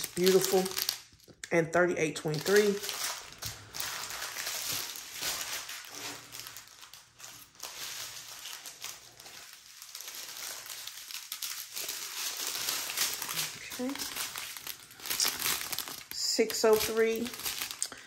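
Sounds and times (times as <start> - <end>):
plastic bags crinkling: 0.0 - 1.4, 2.2 - 18.0.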